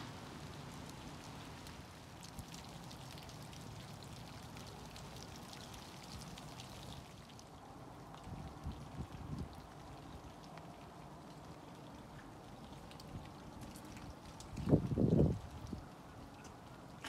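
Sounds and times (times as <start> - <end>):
light rain ticking: 0.0 - 17.0.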